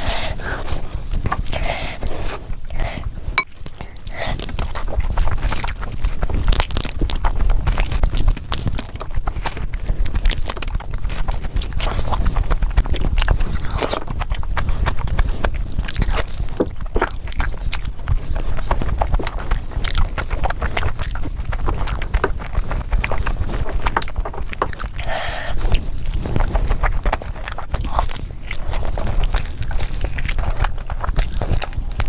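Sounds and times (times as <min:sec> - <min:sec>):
fingers squelching rice: 0:00.0 - 0:32.0
wet chewing and lip-smacking: 0:00.0 - 0:32.0.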